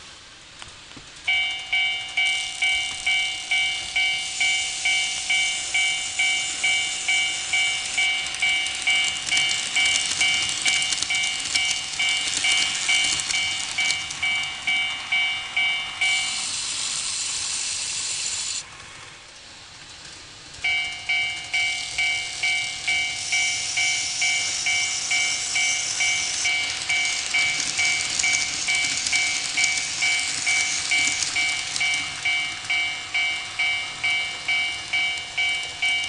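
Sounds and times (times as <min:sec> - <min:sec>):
steady high hiss: 0:00.0 - 0:19.6, 0:20.6 - 0:36.0
level crossing warning bell: 0:01.3 - 0:16.5, 0:20.6 - 0:36.0.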